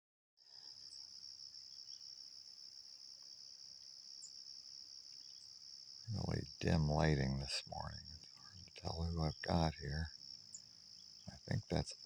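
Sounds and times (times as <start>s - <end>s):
crickets chirring: 0.5s - 12.0s.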